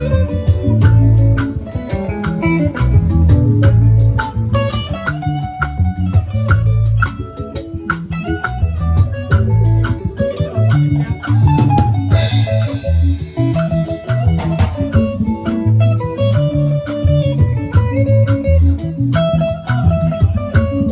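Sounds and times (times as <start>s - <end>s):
bass guitar: 0.0s - 20.9s
drum kit beat: 0.0s - 20.9s
plucked guitar: 0.0s - 20.9s.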